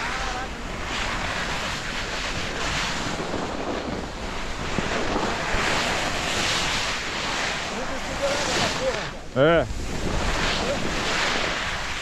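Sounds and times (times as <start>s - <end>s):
skis sliding on snow: 0.0s - 12.0s
wind rushing over microphone: 0.0s - 12.0s.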